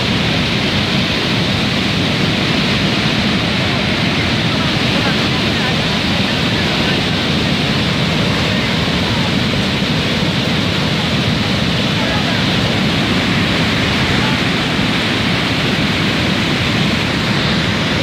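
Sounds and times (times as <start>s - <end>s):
rushing floodwater: 0.0s - 18.0s.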